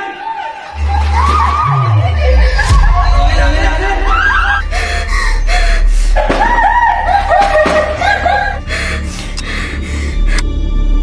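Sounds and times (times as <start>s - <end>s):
steady low rumble: 0.9s - 11.0s.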